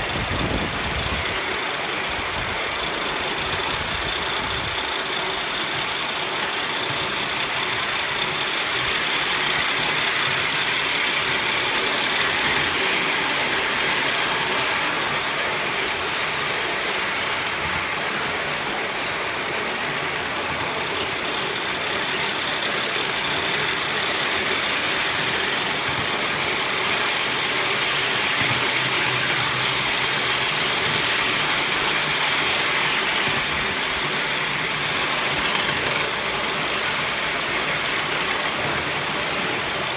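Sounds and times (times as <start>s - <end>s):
model steam locomotive running: 0.0s - 39.9s.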